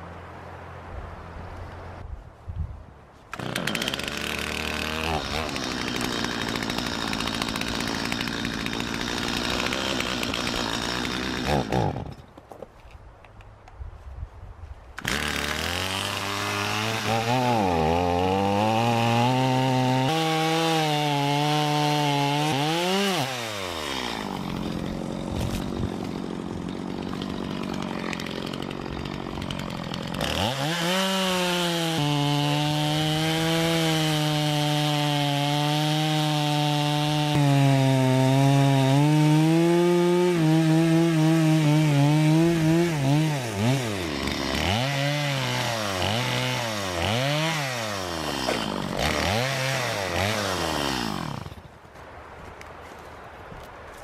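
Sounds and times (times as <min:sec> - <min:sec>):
chainsaw cutting wood: 0:03.3 - 0:12.5, 0:15.0 - 0:51.8.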